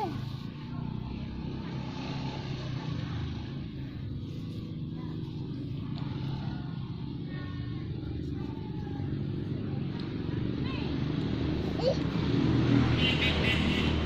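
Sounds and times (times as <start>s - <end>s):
faint voices: 0.0s - 12.5s
engine running steadily: 0.0s - 14.0s.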